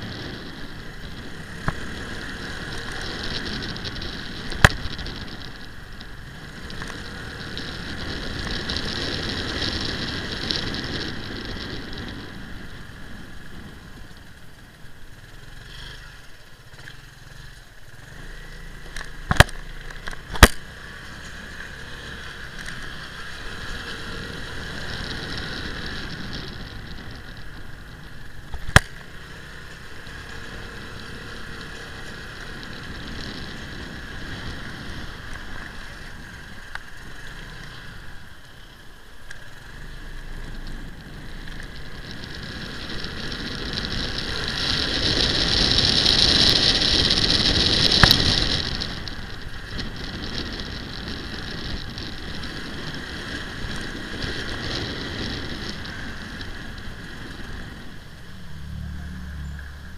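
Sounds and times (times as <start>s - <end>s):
motorcycle wind and road noise: 0.0s - 59.9s.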